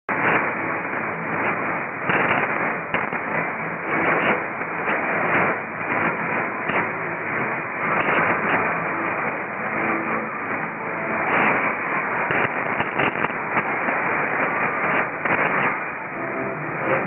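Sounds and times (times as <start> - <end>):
faint radio station audio: 0.1 - 17.0
radio static hiss with crackles: 0.1 - 17.0.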